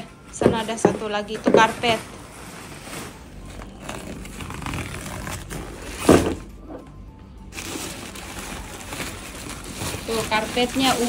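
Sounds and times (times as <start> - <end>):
plastic sack crinkling: 0.0 - 6.6, 7.5 - 11.0
background music: 0.0 - 11.0.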